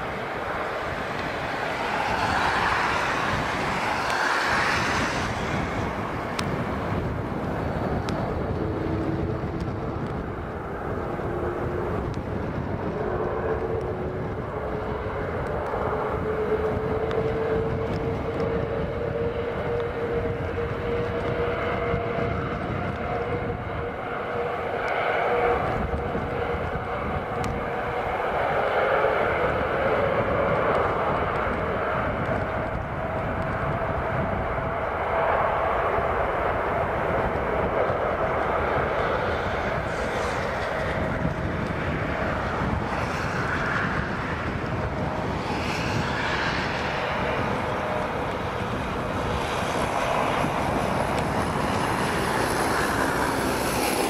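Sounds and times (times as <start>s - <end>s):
broad rushing noise: 0.0s - 54.0s
jet engines running: 0.0s - 54.0s
steady whine rising in pitch: 0.0s - 54.0s.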